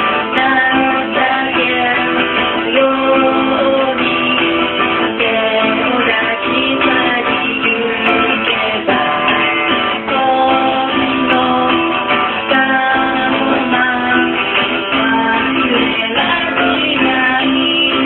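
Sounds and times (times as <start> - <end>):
strummed acoustic guitar: 0.0 - 18.0
woman singing: 0.0 - 18.0.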